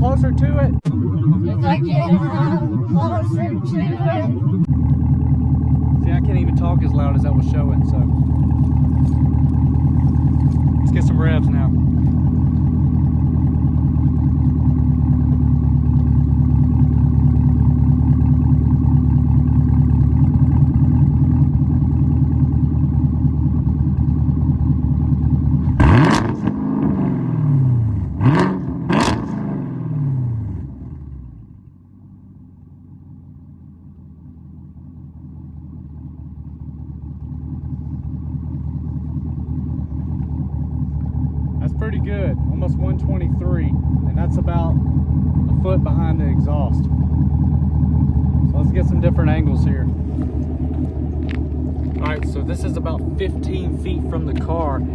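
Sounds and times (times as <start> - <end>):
engine throttle blips: 0.0 - 32.2, 32.8 - 54.9
car engine idling: 0.0 - 54.9.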